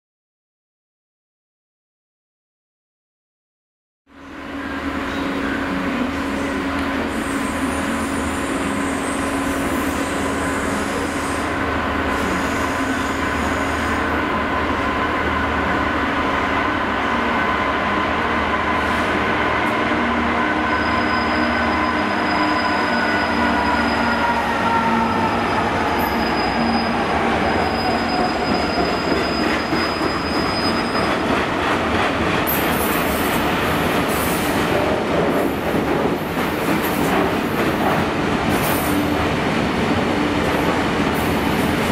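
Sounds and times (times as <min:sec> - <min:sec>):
diesel locomotive engine: 0:04.1 - 0:41.9.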